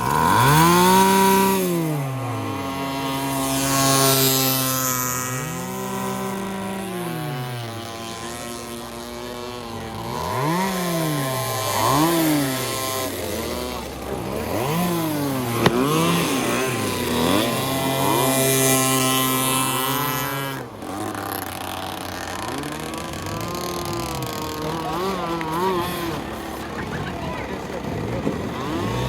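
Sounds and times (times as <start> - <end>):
small boat engines buzzing: 0.0 - 29.0.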